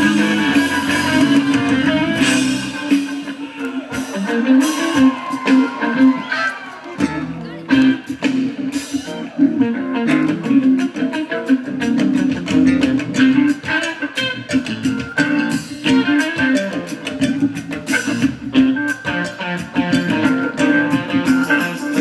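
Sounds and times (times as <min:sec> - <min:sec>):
drums with cymbal strokes: 0:00.0 - 0:05.8, 0:10.1 - 0:22.0
bass guitar: 0:00.0 - 0:22.0
electric guitars: 0:00.0 - 0:22.0.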